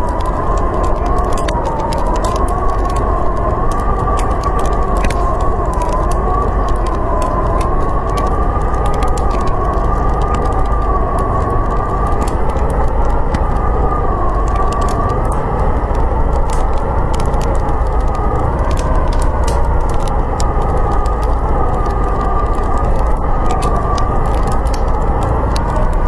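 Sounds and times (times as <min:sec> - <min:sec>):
blizzard wind howling: 0:00.0 - 0:26.0
wood fire crackling and popping: 0:00.0 - 0:26.0.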